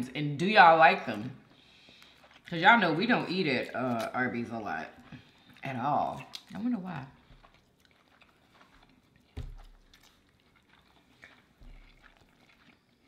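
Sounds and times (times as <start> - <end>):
people chewing: 1.0 - 13.0.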